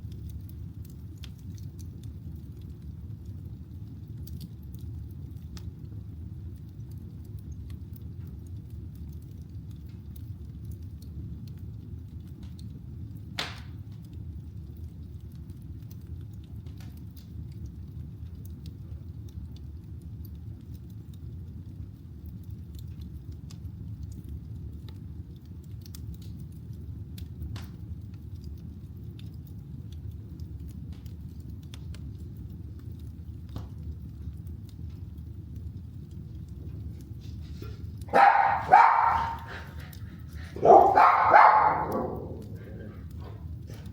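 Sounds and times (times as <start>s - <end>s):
fire rumbling: 0.0s - 43.9s
firewood popping and crackling: 0.0s - 43.9s.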